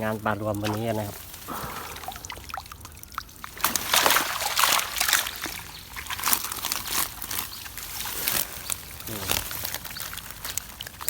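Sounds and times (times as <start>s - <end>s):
water dripping: 0.0s - 11.0s
water sloshing and splashing: 0.1s - 11.0s.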